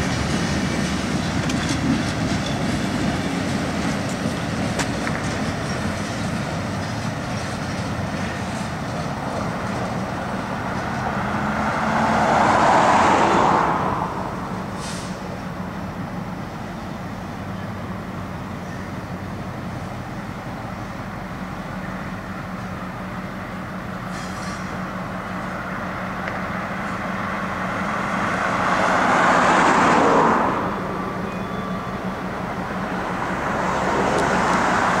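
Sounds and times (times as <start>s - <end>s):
diesel engine hum: 0.0s - 35.0s
train wheels rumbling on rails: 0.0s - 35.0s.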